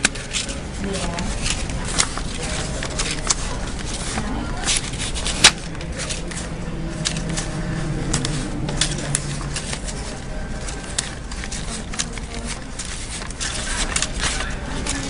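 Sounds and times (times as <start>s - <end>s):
banknotes flicked and rustled: 0.0s - 15.0s.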